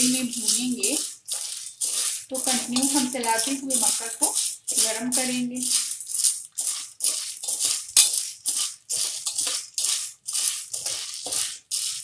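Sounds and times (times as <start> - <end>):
popcorn kernels rattling in pot: 0.0 - 12.0
spatula stirring: 0.0 - 12.0.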